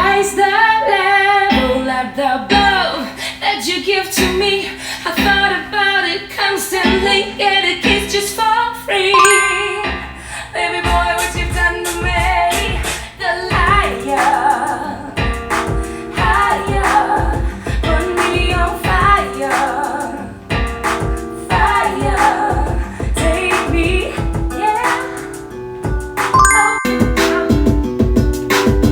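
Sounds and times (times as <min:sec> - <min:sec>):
female singer pop song: 0:00.0 - 0:25.6.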